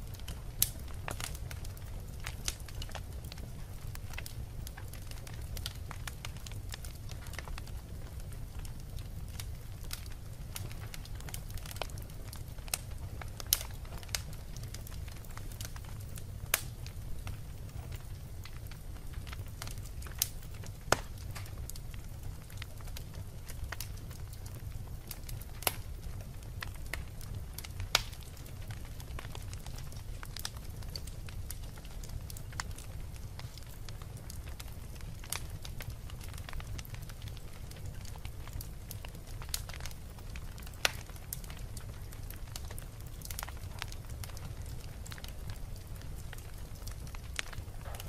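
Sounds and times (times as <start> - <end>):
fire crackling: 0.0 - 48.0
low rumble of flame: 0.0 - 48.0
wood fire popping: 0.0 - 48.0.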